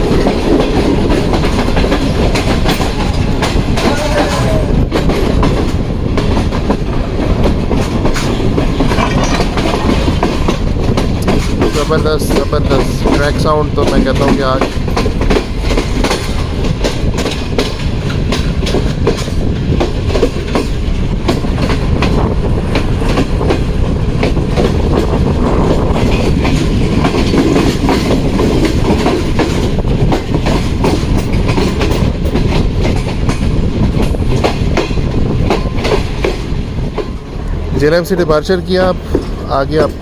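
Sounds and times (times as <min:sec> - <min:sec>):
train rumble: 0:00.0 - 0:40.0
train wheels clattering over rail joints: 0:00.0 - 0:40.0.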